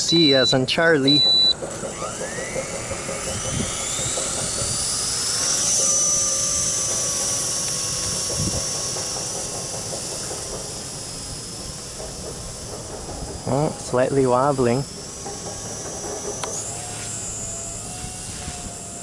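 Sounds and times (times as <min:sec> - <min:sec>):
rc helicopter motor whining: 0:00.0 - 0:19.0.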